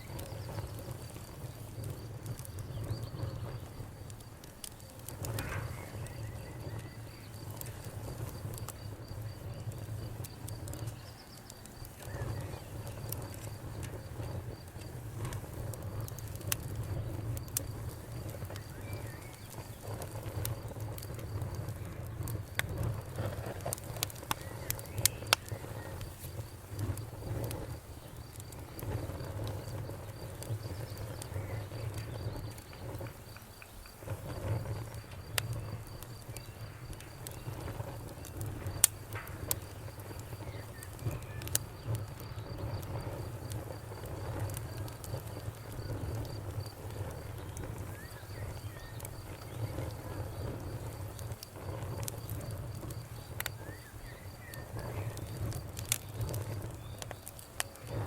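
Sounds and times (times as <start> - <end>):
campfire crackling and popping: 0.0 - 58.0
cricket chirping trill: 5.3 - 58.0.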